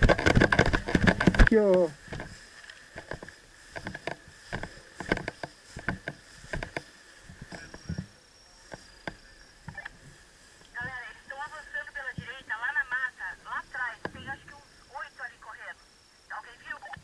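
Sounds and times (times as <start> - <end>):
footsteps walking: 0.0 - 14.3
faint steady hiss: 0.0 - 17.0.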